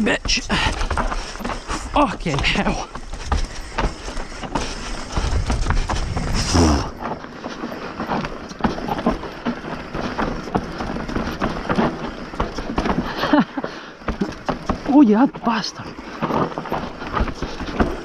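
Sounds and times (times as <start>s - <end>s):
mountain bike clattering: 0.0s - 18.0s.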